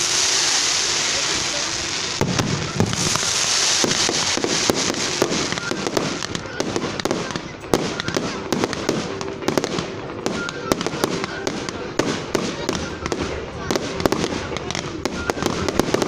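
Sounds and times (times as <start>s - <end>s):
fireworks cracking and banging: 0.0s - 16.0s
fireworks crackling: 0.0s - 16.0s.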